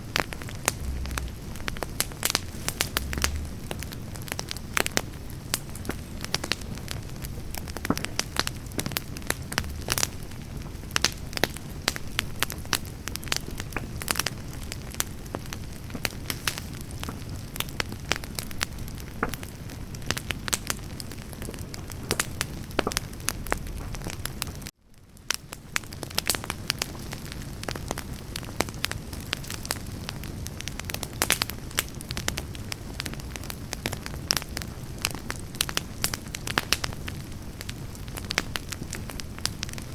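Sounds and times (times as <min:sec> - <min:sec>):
campfire crackling and popping: 0:00.0 - 0:39.9
low rumble of flame: 0:00.0 - 0:39.9.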